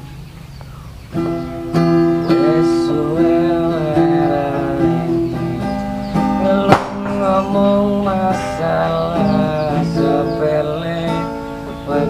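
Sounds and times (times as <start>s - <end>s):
acoustic guitar strumming: 1.0s - 12.0s
man singing: 2.2s - 12.0s.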